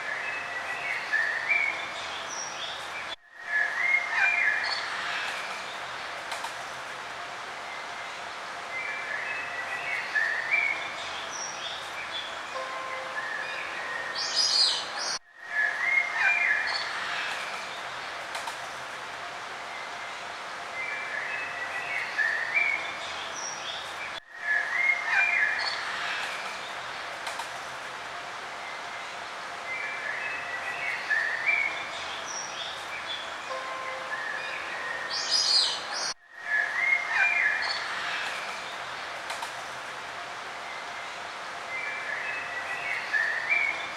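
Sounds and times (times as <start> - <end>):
songbirds chirping and singing: 0.0 - 6.1, 7.6 - 18.3, 19.6 - 27.2, 28.4 - 39.2, 40.6 - 43.9
steady outdoor hiss: 0.0 - 43.9.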